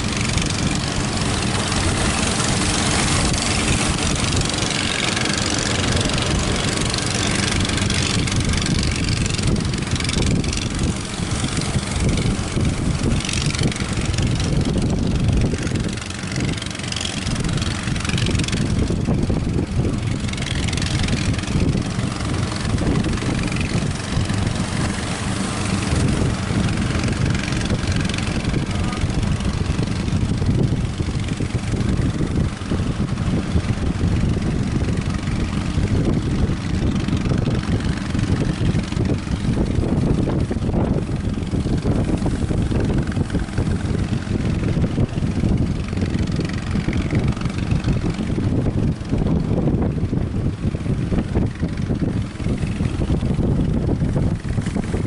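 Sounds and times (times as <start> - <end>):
outboard engine running: 0.0 - 55.0
strong wind rushing: 0.0 - 55.0
waves: 0.0 - 55.0.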